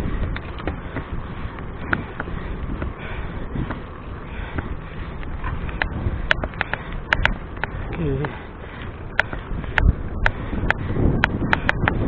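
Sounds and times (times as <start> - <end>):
mountain bike rattling: 0.0 - 12.0
wind and road noise: 0.0 - 12.0.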